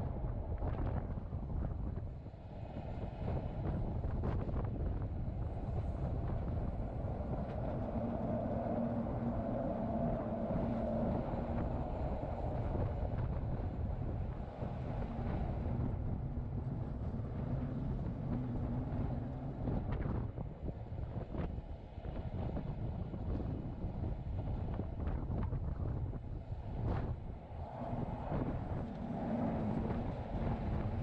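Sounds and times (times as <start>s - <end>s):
faint hum: 0.0s - 31.0s
wind buffeting microphone: 0.0s - 31.0s.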